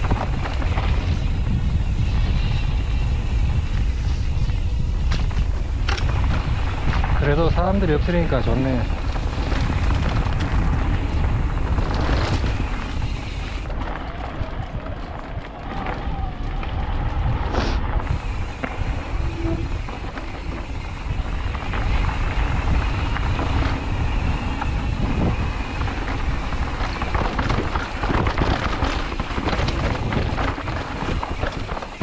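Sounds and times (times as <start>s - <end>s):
bike rattling and knocking: 0.0s - 32.0s
tyres on dirt trail: 0.0s - 32.0s
wind buffeting microphone: 0.0s - 32.0s.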